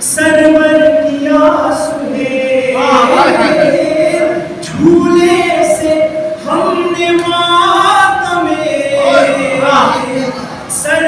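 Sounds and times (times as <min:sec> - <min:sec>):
voices singing a lament: 0:00.0 - 0:11.0.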